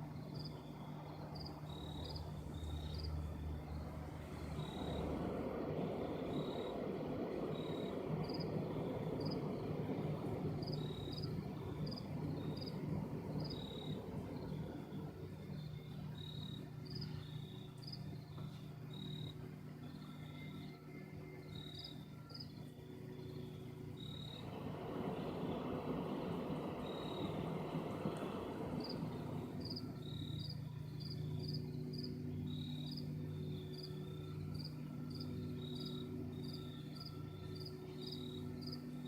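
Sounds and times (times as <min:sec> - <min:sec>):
insects chirping: 0:00.0 - 0:39.0
low hum and rumble: 0:00.0 - 0:39.0.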